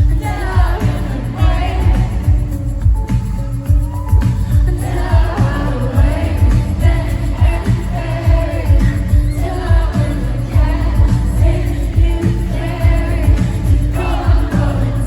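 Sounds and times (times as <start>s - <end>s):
person singing: 0.0s - 15.0s
steady bass beat: 0.0s - 15.0s.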